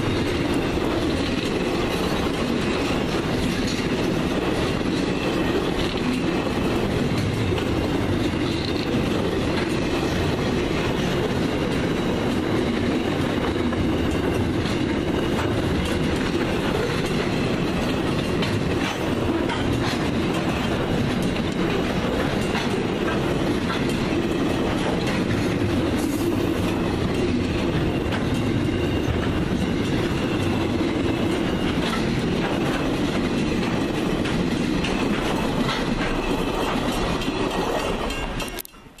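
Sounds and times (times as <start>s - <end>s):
train wheels rumbling on rails: 0.0s - 39.0s
wheels clicking over rail joints: 0.0s - 39.0s.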